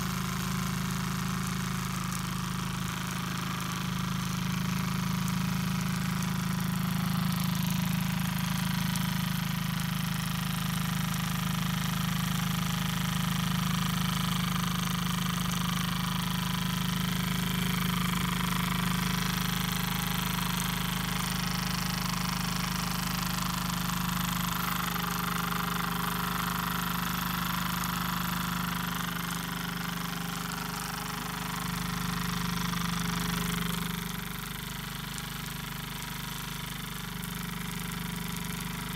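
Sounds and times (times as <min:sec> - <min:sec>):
model steam engine running: 0:00.0 - 0:38.9.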